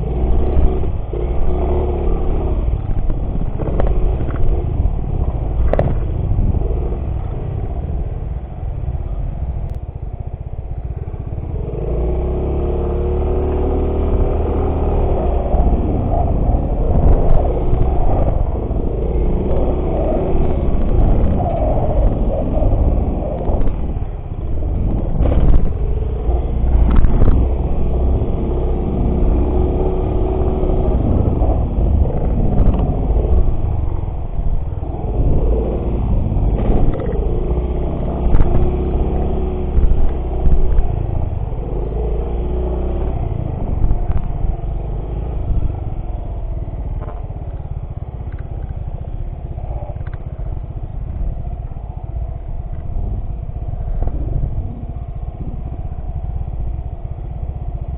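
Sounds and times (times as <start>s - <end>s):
heavy low rumble: 0.0s - 57.9s
motorcycle engine running: 0.0s - 57.9s.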